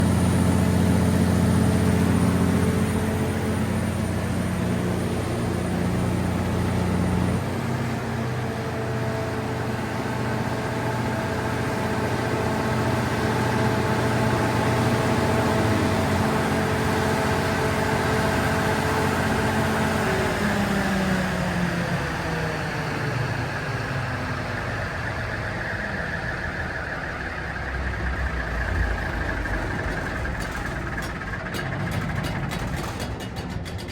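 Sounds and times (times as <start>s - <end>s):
diesel generator engine running: 0.0s - 33.9s.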